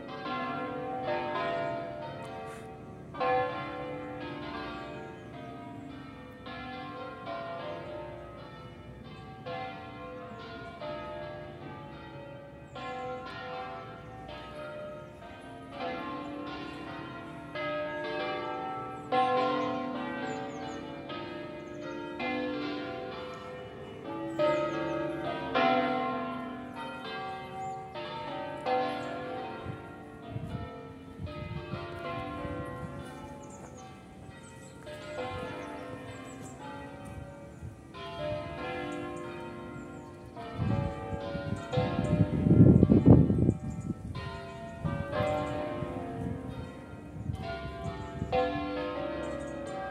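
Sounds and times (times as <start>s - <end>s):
church bells swing-ringing: 0.0s - 49.9s.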